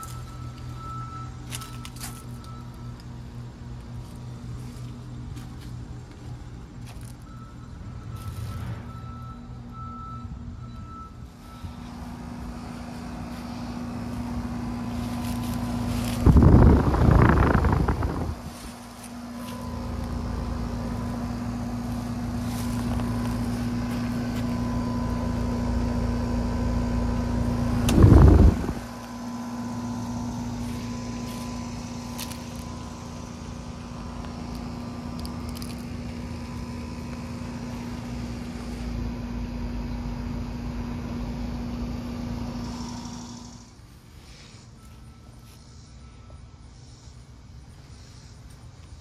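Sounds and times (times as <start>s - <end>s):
heat pump fan hum: 0.0s - 49.0s.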